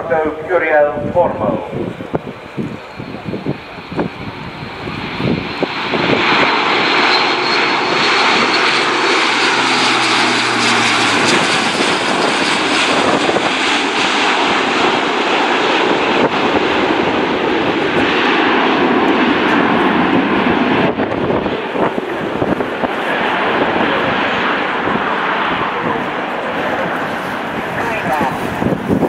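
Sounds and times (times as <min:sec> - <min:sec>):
turboprop engines at high power: 0:00.0 - 0:29.0.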